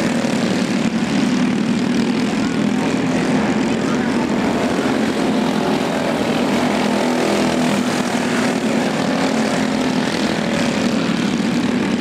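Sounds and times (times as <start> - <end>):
go-kart engines buzzing: 0.0 - 12.0.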